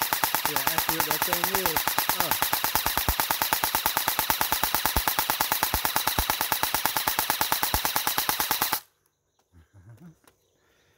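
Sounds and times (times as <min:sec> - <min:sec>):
electric airsoft gun firing full auto: 0:00.0 - 0:08.9.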